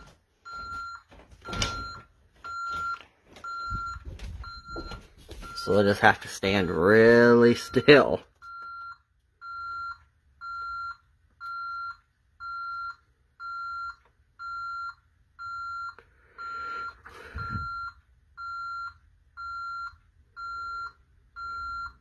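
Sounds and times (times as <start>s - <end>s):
alarm keypad beeps: 0.0s - 5.9s, 6.5s - 22.0s.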